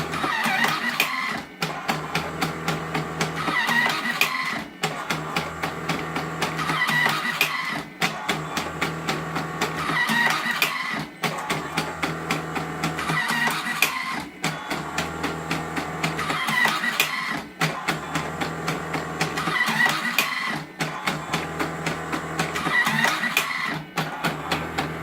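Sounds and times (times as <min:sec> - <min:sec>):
machine motor whirring: 0:00.0 - 0:25.0.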